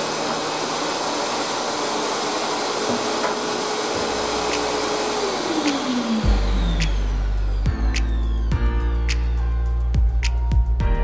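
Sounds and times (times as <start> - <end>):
vacuum cleaner running: 0.0 - 10.1.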